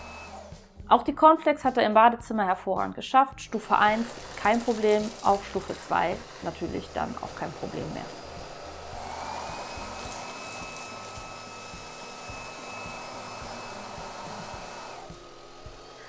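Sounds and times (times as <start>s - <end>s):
vacuum cleaner motor hum: 0.0s - 0.6s, 3.6s - 16.0s.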